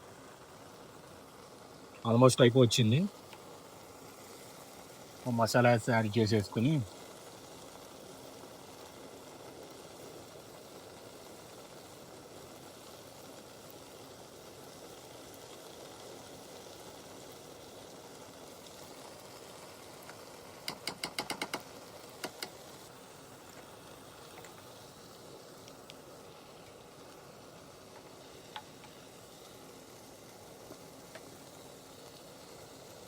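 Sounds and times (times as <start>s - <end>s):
pan of curry hissing: 0.0s - 33.0s.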